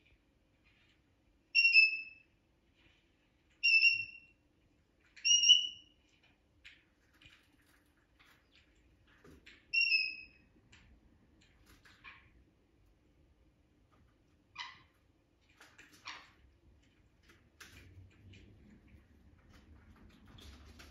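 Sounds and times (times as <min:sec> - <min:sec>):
soft bird chirps and clicks: 0:00.0 - 0:12.5, 0:13.9 - 0:20.9.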